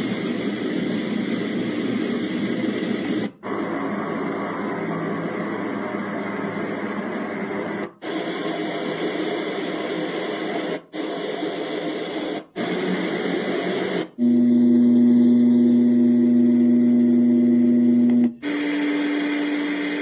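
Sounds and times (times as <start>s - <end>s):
steady pitched hum: 0.0s - 20.0s
white noise machine rushing: 0.0s - 20.0s.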